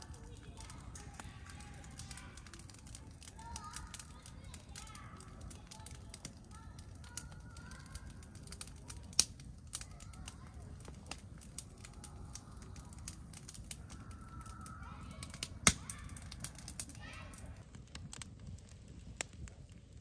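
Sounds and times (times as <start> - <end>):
campfire crackling: 0.0 - 20.0
fire popping: 0.0 - 20.0.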